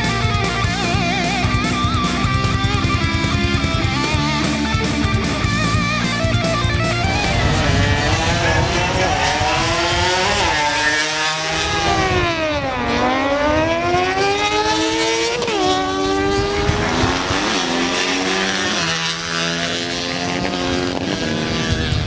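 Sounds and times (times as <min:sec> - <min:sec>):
motorcycles accelerating hard: 0:00.0 - 0:22.0.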